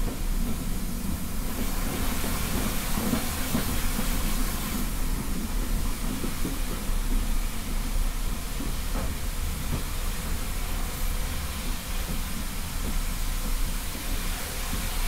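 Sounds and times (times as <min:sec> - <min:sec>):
steam hiss: 0:00.0 - 0:15.0
steam train rumble: 0:00.0 - 0:15.0.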